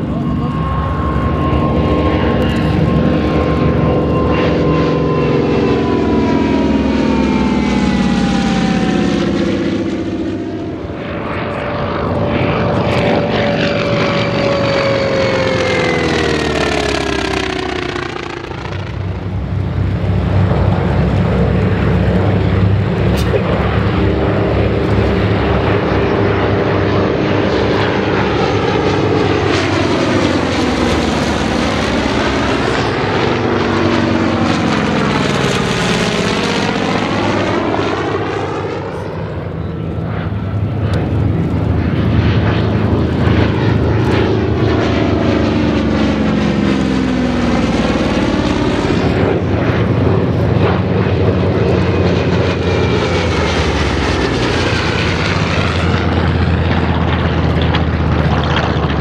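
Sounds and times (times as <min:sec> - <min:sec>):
propeller planes droning past: 0:00.0 - 0:59.0.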